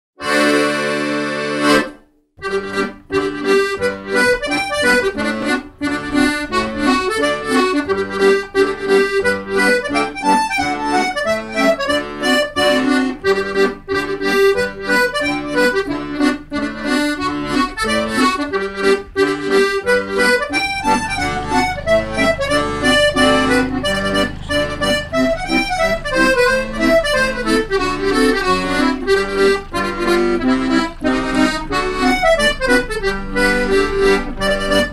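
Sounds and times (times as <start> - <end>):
accordion music: 0.2 - 34.9.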